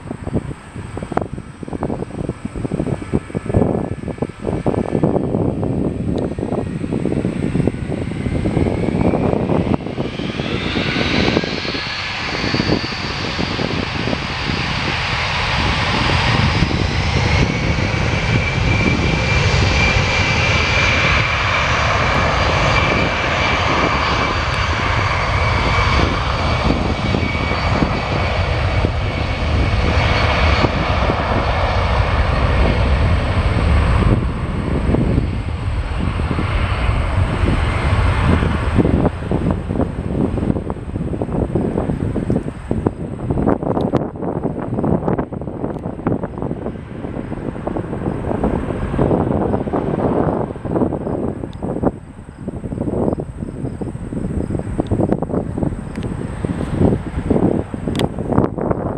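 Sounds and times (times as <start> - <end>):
jet engines running loud: 0.0 - 58.9.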